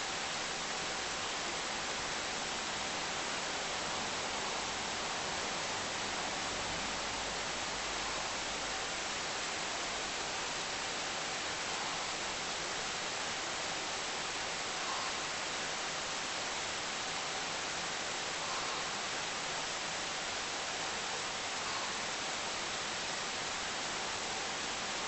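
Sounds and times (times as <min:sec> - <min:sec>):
faint steady tone: 0:00.0 - 0:25.0
steady hiss: 0:00.0 - 0:25.0.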